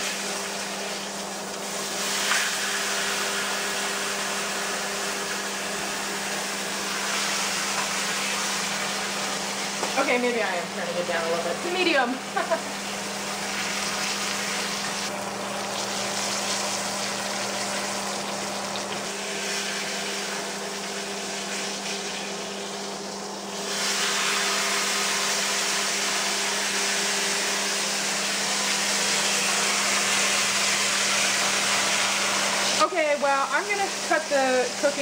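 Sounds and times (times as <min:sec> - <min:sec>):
steak sizzling in a frying pan: 0:00.0 - 0:10.1, 0:12.4 - 0:26.0, 0:28.3 - 0:35.0
range fan humming: 0:00.0 - 0:35.0.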